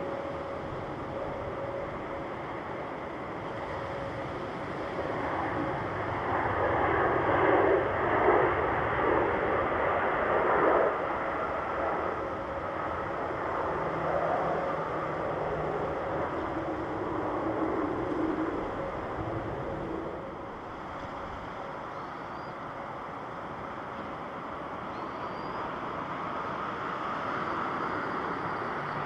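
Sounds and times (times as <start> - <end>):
jet airliner engines passing: 0.0 - 29.0.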